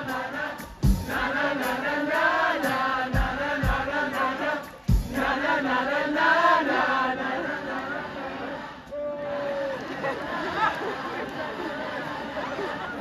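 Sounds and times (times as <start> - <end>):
crowd singing along: 0.0 - 13.0.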